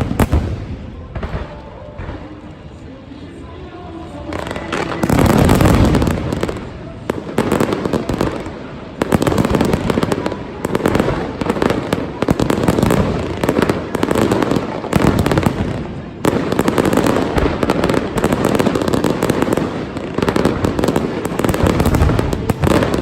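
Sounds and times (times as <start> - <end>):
fireworks crackling bangs: 0.0 - 3.0, 4.2 - 23.0.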